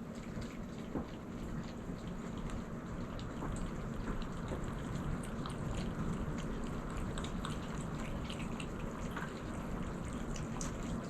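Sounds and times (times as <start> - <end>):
low background hum: 0.0 - 11.0
cats chewing: 0.1 - 11.0.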